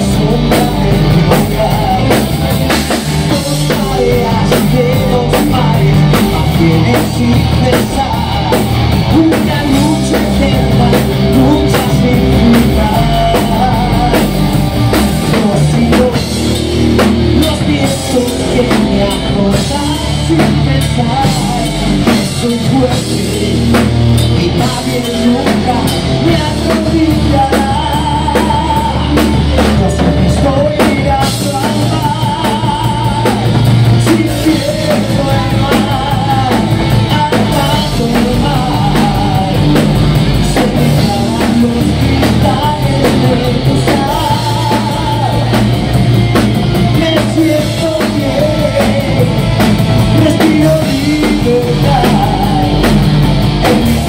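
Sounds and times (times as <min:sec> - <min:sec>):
bass guitar: 0:00.0 - 0:54.0
drum kit: 0:00.0 - 0:54.0
electric guitars: 0:00.0 - 0:54.0
man singing lead: 0:00.0 - 0:54.0.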